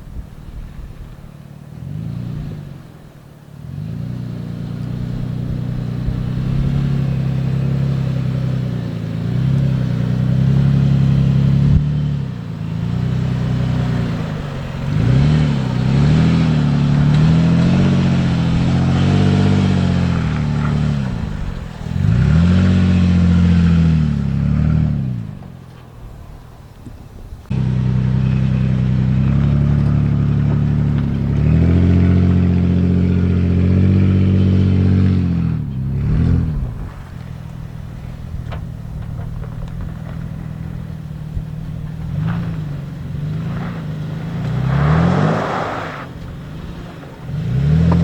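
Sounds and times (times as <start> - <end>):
engine accelerating: 0.0 - 48.0.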